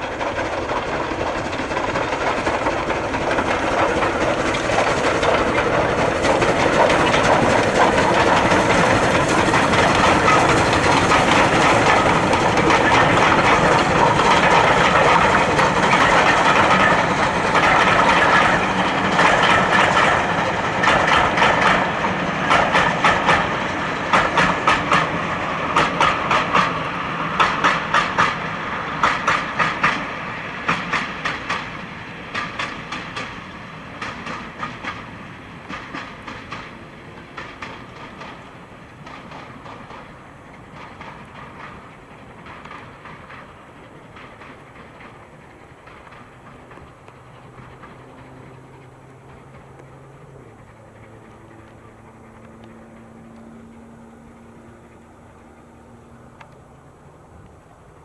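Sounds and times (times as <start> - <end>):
steam locomotive exhaust rumble: 0.0 - 58.0
train wheels clicking over rail joints: 0.0 - 58.0.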